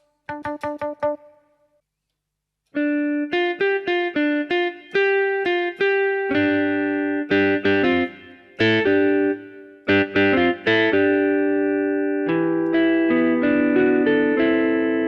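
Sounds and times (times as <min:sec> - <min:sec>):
keyboard guitar tone notes: 0:00.0 - 0:01.4, 0:02.8 - 0:15.0.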